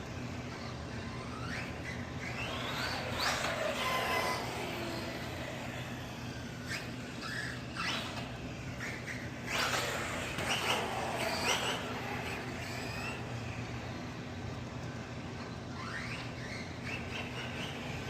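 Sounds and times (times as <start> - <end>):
toy truck electric motor whining: 0.0 - 14.2, 14.8 - 18.0
tyre and drivetrain noise: 0.0 - 18.0.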